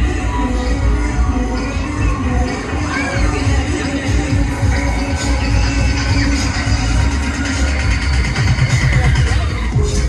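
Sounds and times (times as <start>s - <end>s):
electronic dance music with heavy bass: 0.0s - 10.0s.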